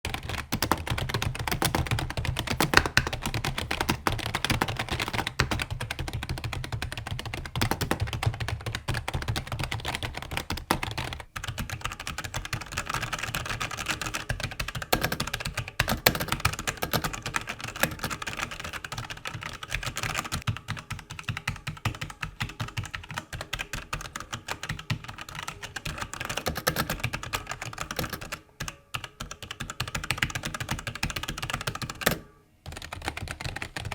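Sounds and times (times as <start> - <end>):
fast typing on keyboard: 0.0 - 33.9
clicky keyboard typing: 0.1 - 33.9.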